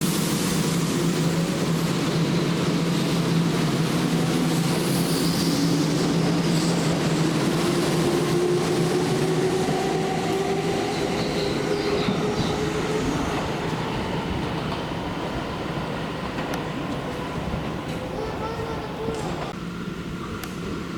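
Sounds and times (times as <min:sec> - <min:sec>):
wheels rolling on rail: 0:00.5 - 0:20.8.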